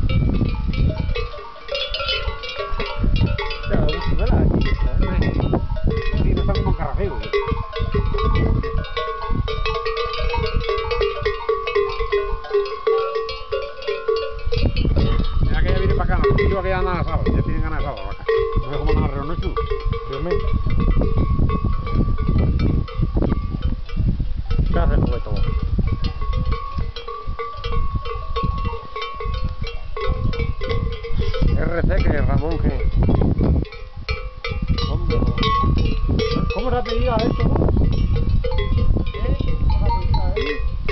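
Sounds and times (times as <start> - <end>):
cowbells clanking: 0.0 - 40.9.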